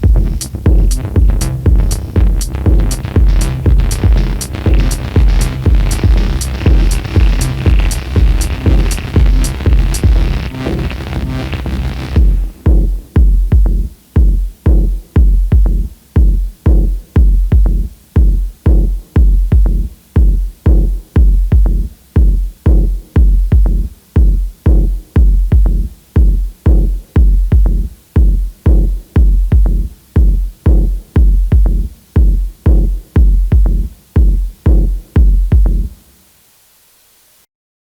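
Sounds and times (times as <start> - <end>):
drum machine kick: 0.0 - 36.1.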